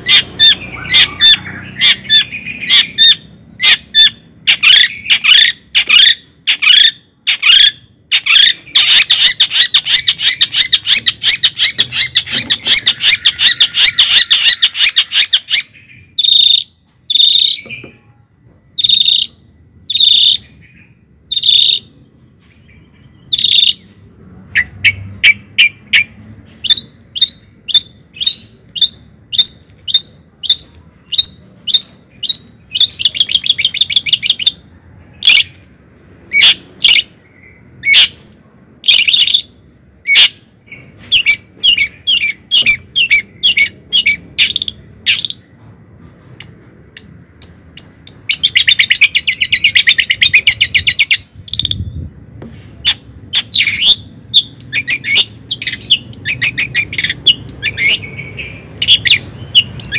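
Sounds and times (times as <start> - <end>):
bird chirping and trilling: 0.0 - 35.6, 36.2 - 38.2, 38.8 - 45.5, 46.4 - 52.1, 52.8 - 59.9.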